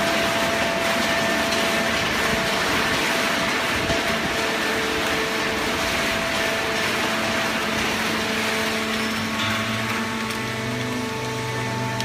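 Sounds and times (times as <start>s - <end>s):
baler machine running: 0.0s - 12.0s
deeper hum: 0.0s - 12.0s
hydraulic pump motor hum: 0.0s - 12.0s.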